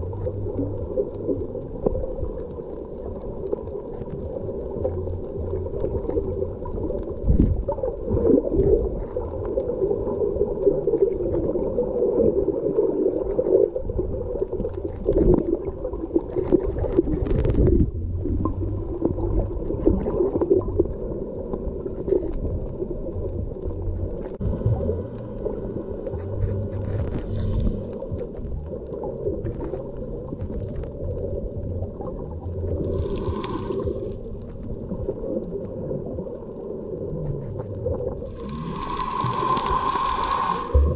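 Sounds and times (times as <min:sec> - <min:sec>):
underwater gurgling and sloshing: 0:00.0 - 0:40.9.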